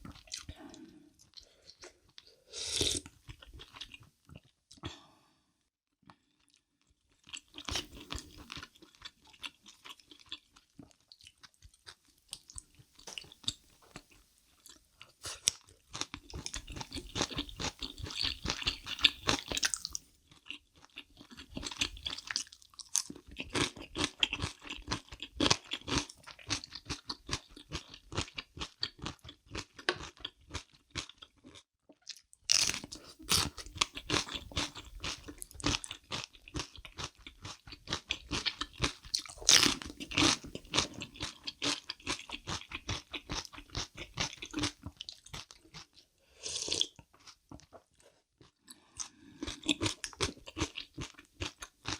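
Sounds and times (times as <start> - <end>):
crunchy food chewing: 6.1 - 51.9.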